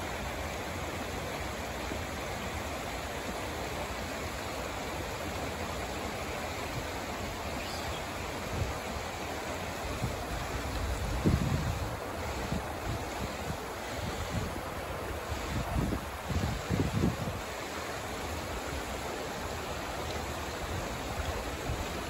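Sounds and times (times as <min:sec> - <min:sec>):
river flowing over rocks: 0:00.0 - 0:22.0.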